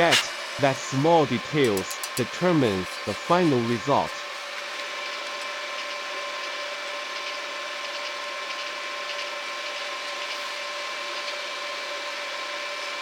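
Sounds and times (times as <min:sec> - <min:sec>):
welding arc crackling hiss: 0:00.0 - 0:11.4.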